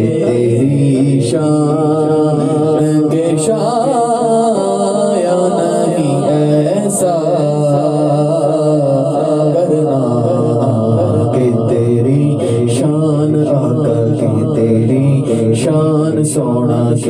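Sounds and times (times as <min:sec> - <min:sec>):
man singing with echo: 0:00.0 - 0:17.0.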